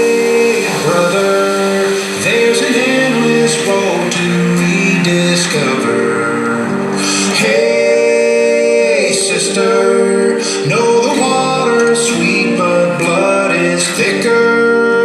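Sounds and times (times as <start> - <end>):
guitar: 0.0 - 15.0
man singing: 0.0 - 15.0.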